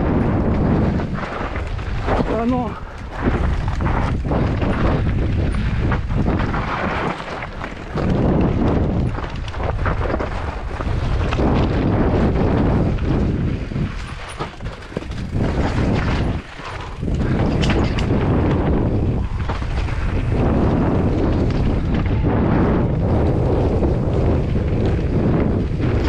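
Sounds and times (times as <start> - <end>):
bike rattling over rocks: 0.0 - 26.0
wind buffeting microphone: 0.0 - 26.0.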